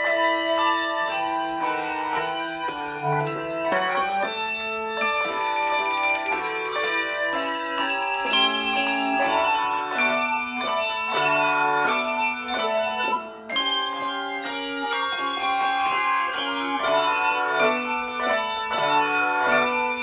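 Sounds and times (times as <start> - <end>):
handbell ensemble playing: 0.0 - 20.0.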